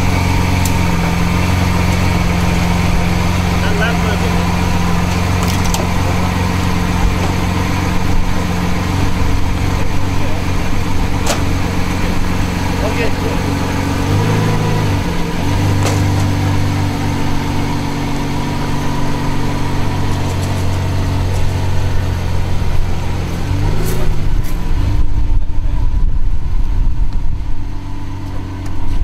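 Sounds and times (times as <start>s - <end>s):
car engine at low revs: 0.0s - 29.0s
loud low rumble: 0.0s - 29.0s.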